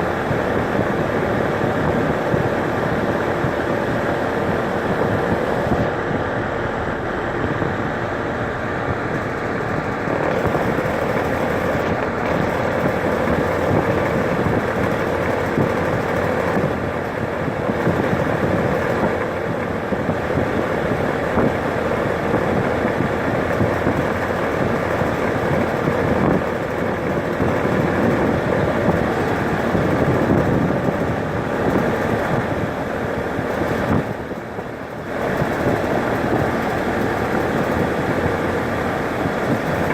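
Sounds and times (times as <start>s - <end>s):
air conditioner fan rushing: 0.0s - 39.9s.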